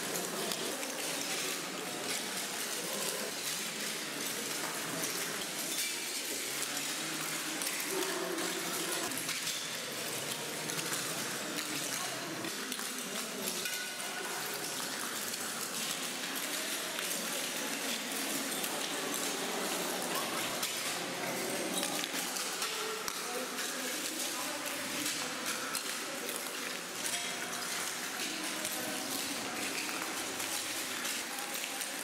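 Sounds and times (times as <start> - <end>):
murmur of crowd voices: 0.0 - 32.0.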